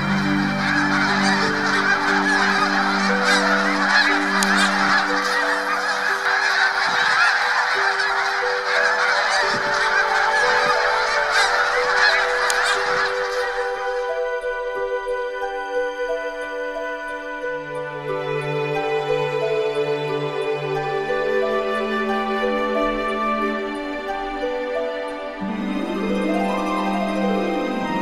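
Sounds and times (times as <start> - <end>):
flock of geese honking: 0.0 - 28.0.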